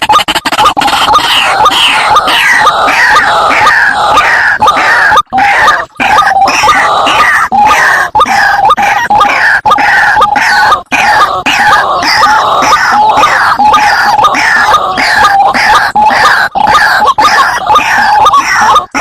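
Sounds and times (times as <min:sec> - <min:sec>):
bird calling harsh notes: 0:00.0 - 0:19.0.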